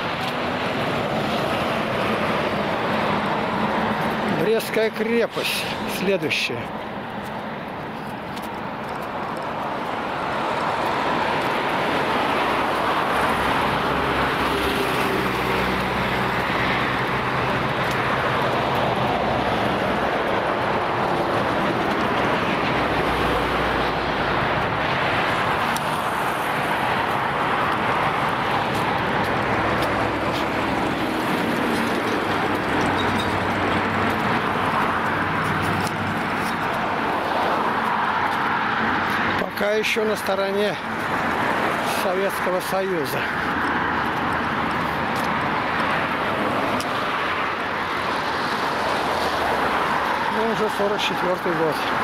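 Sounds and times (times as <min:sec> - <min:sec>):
lorry tyre noise: 0:00.0 - 0:52.0.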